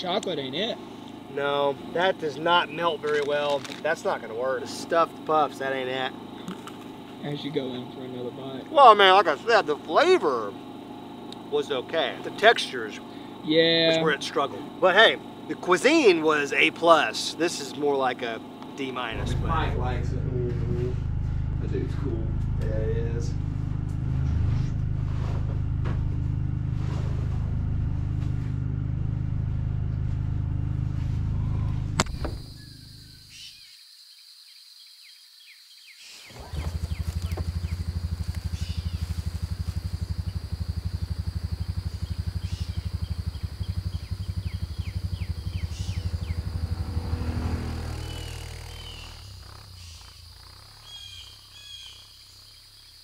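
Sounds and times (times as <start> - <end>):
portable generator engine humming: 0.0 - 33.3, 36.3 - 52.9.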